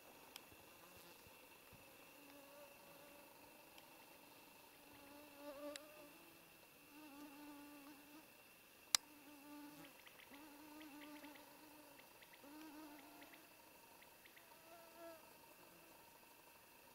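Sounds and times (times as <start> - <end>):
flying insect buzzing: 0.0 - 16.9.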